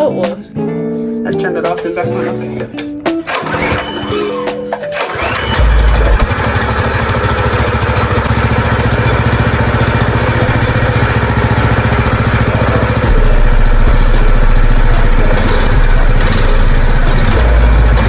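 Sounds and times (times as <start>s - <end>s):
small gasoline engine running: 3.3s - 18.0s.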